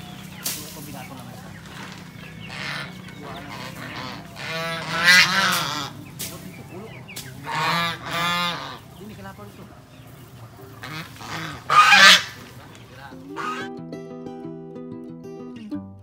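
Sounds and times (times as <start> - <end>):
geese honking: 0.0 - 13.8.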